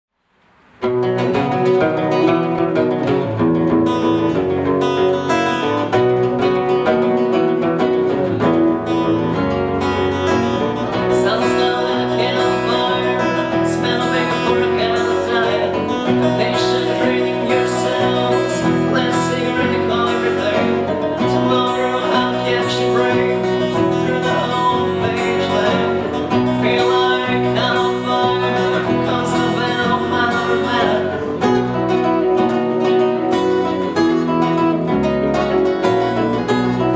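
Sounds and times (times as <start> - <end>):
acoustic guitars: 0.4 - 36.9
bass guitar: 0.8 - 36.9.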